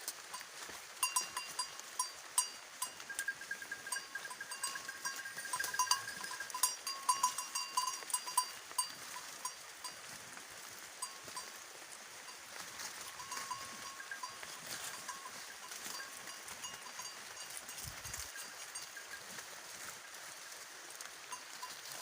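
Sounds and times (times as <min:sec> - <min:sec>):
goat bells clanking: 0:00.1 - 0:22.0.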